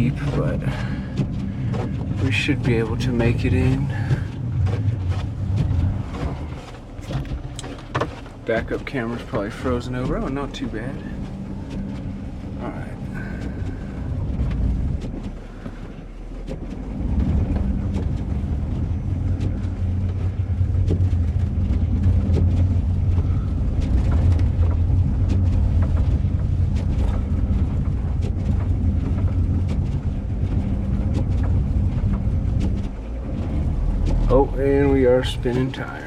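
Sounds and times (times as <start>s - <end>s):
faint clicks and crunches: 0.0s - 36.0s
van engine droning under load: 0.0s - 36.0s.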